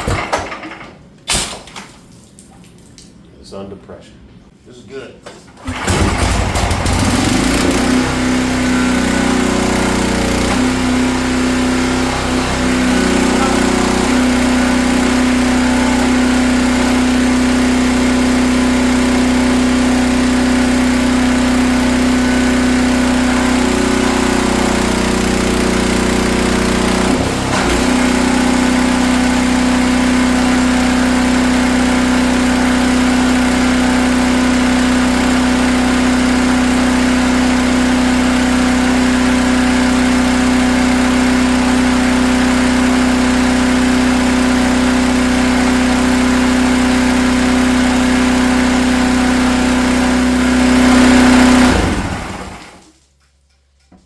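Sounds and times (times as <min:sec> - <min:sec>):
pressure washer engine and pump: 0:05.6 - 0:53.5.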